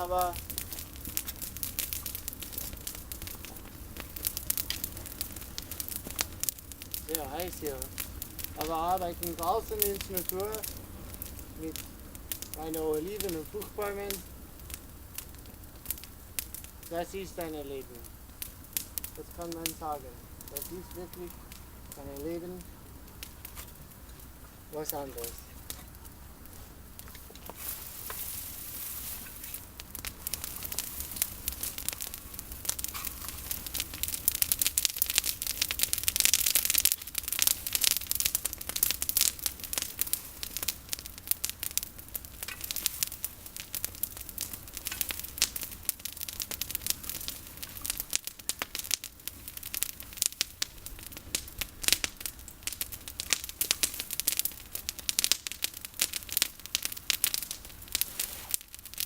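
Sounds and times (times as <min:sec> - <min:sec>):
campfire crackling and snapping: 0:00.0 - 0:59.0.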